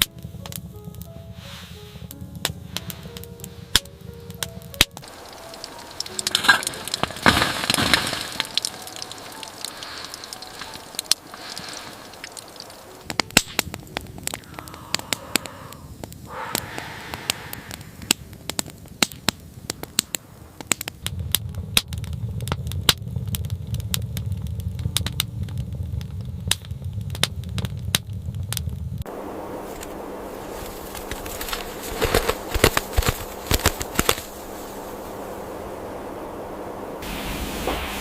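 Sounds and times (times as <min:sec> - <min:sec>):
low steady rumble: 0:00.0 - 0:38.0
wood fire crackling and popping: 0:00.0 - 0:38.0.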